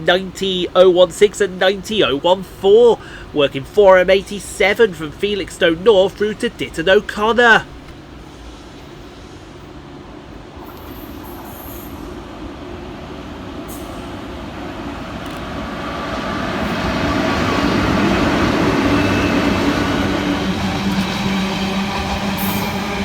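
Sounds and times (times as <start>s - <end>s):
freight train rumble and hum: 0.0s - 23.0s.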